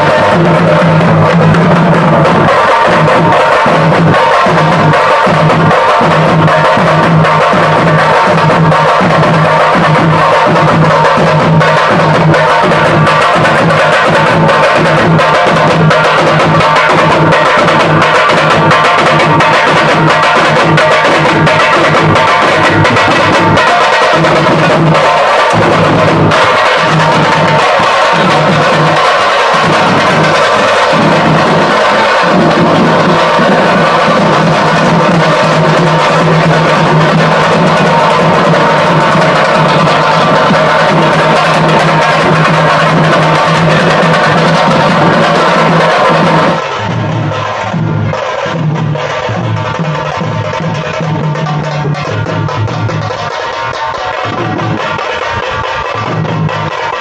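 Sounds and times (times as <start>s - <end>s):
loud music with heavy drum beat: 0.0s - 57.0s.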